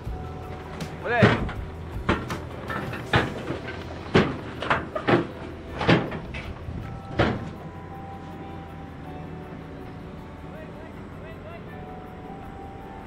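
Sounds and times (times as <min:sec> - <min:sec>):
excavator engine hum: 0:00.0 - 0:13.0.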